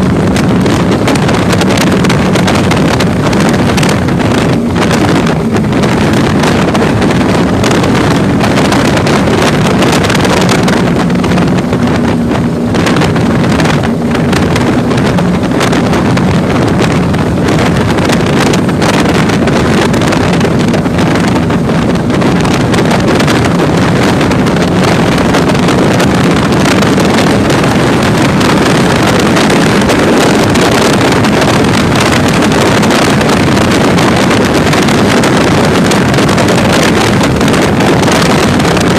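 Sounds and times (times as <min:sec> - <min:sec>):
motorboat engine hum: 0:00.0 - 0:38.9
wind buffeting microphone: 0:00.0 - 0:38.9.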